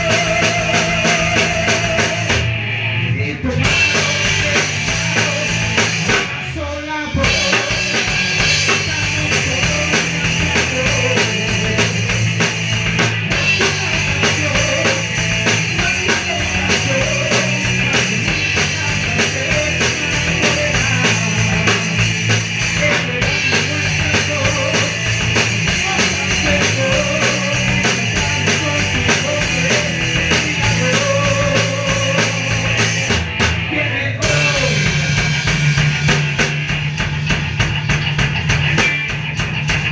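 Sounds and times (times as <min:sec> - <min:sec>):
ska-punk band playing: 0:00.0 - 0:39.9.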